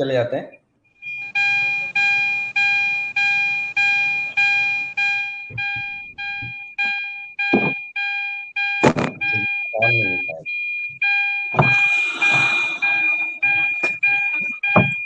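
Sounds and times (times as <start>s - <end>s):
electronic warning chime: 1.0s - 15.0s.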